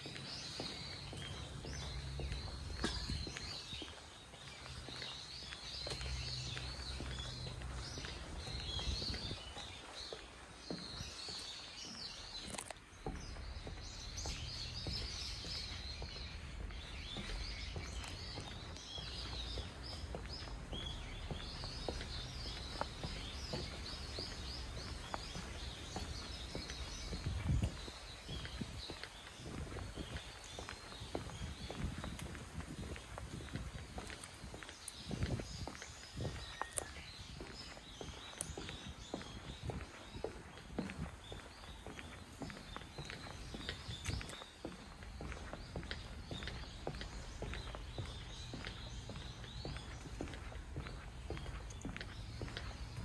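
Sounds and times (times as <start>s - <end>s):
faint footsteps: 0.0s - 53.0s
high chirping from trees: 0.0s - 53.0s.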